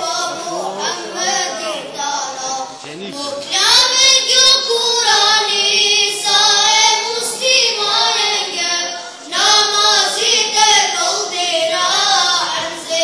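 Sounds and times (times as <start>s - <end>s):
high voice singing unaccompanied: 0.0s - 13.0s.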